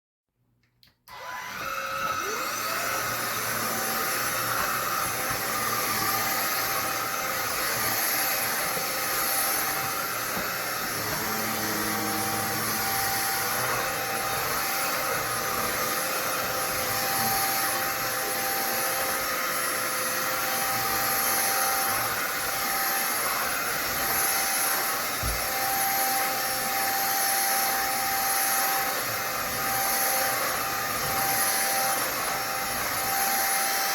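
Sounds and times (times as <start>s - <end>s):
vacuum cleaner motor whining: 1.0s - 33.9s.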